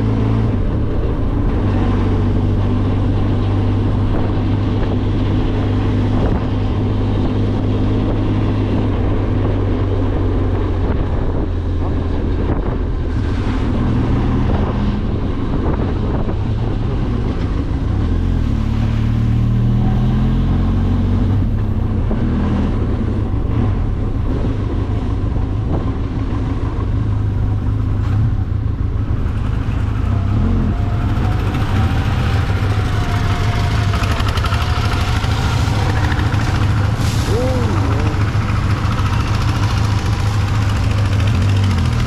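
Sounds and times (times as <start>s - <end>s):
motorcycle engine running: 0.0s - 13.2s, 21.4s - 42.0s.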